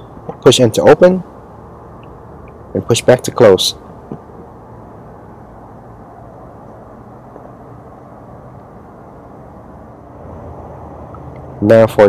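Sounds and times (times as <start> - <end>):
low outdoor background noise: 0.0 - 12.0.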